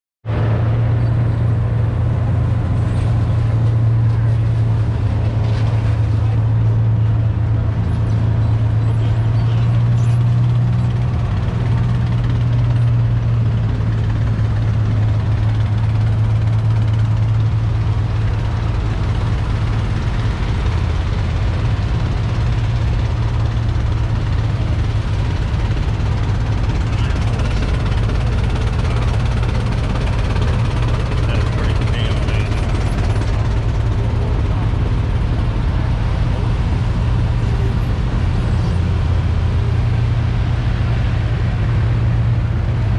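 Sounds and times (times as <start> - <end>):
small vehicle engine humming: 0.3 - 42.9.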